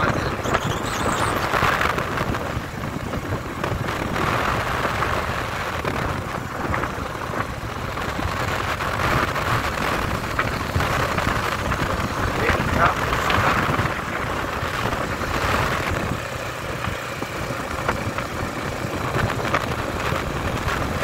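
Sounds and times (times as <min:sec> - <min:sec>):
vehicle engine and road noise: 0:00.0 - 0:21.0
wind rumbling on microphone: 0:00.0 - 0:21.0.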